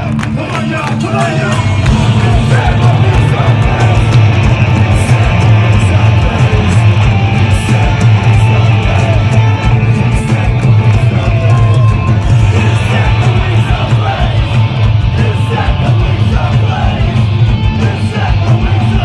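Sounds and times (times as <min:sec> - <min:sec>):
distorted electric guitars: 0:00.0 - 0:19.0
heavy rock band playing: 0:00.0 - 0:19.0
pounding bass drum: 0:00.0 - 0:19.0.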